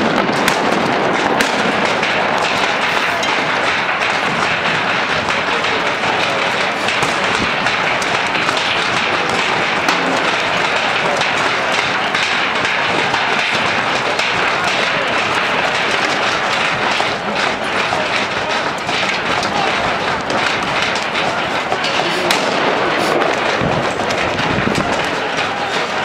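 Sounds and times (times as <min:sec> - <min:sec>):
din of street clash: 0:00.0 - 0:26.0
sharp bangs and knocks: 0:00.0 - 0:26.0.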